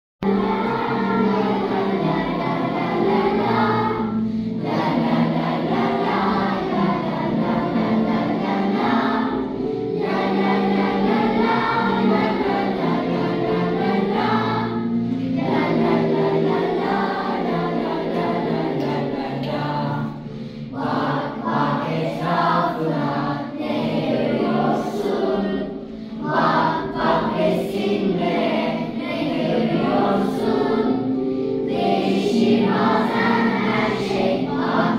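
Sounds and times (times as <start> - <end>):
children's choir singing: 0.2 - 34.9.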